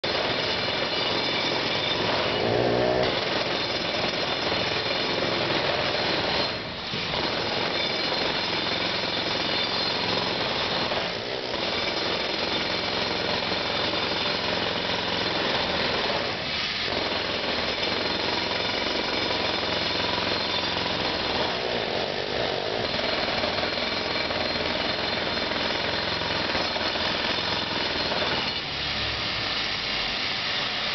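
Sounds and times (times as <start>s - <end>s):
loud jackhammer hammering: 0.0s - 30.9s.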